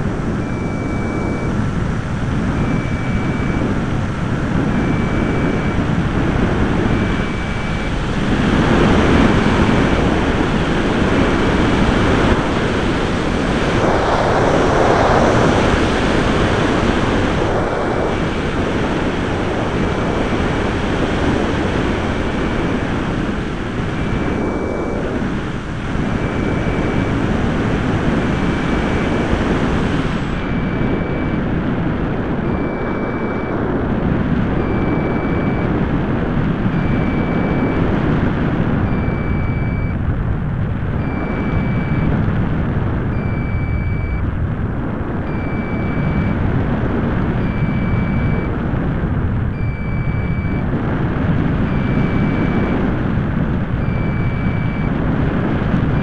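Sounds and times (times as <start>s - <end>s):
air rushing over microphone: 0.0s - 56.0s.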